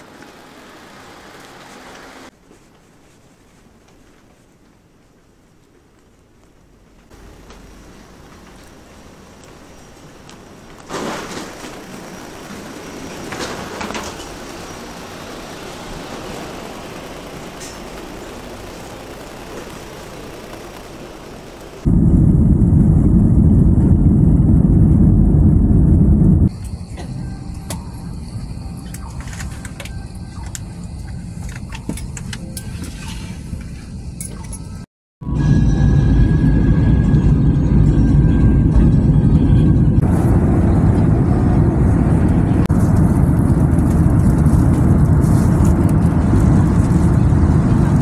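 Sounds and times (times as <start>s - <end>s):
airliner cabin low hum: 0.0s - 34.6s, 35.2s - 48.0s
steady mechanical noise: 6.6s - 48.0s
loud jet engine rumble: 7.1s - 33.6s, 35.2s - 48.0s.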